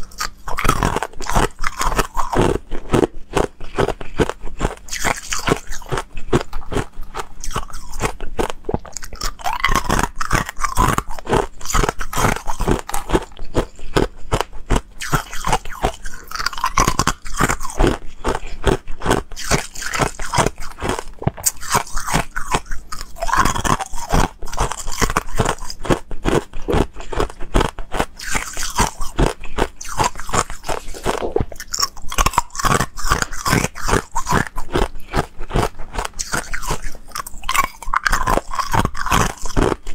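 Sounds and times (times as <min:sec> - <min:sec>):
ice cubes crunching while chewed: 0:00.0 - 0:39.9.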